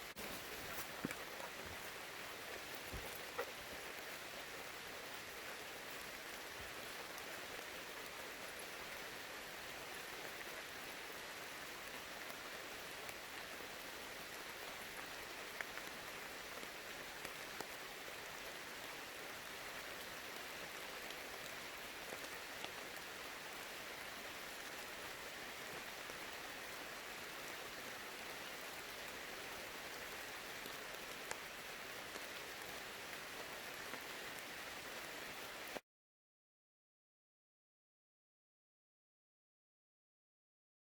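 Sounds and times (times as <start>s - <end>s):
faint rain falling: 0.0s - 35.8s.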